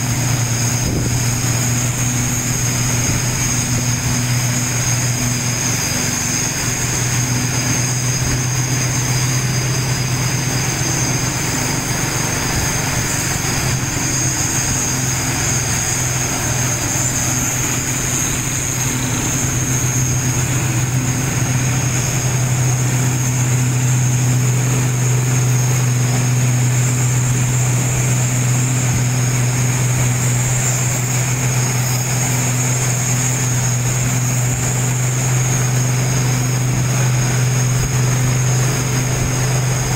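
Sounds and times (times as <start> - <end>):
faint high whine: 0.0 - 39.9
vehicle engine droning: 0.0 - 39.9.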